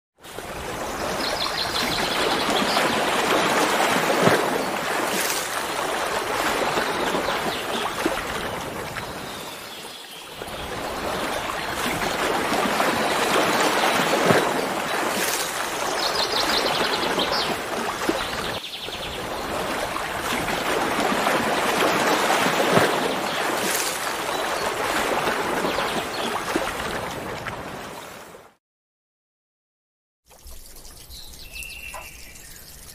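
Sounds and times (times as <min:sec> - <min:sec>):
rushing water: 0:00.2 - 0:28.6, 0:30.3 - 0:32.9.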